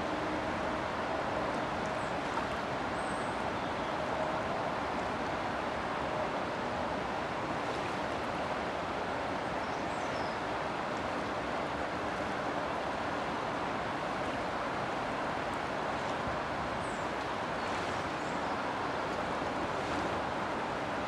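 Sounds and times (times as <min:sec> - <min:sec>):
river floodwater rushing: 0:00.0 - 0:21.0.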